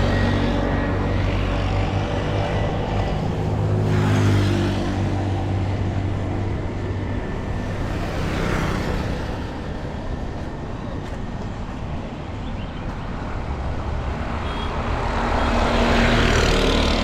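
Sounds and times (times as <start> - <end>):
steady traffic hum: 0.0 - 17.0.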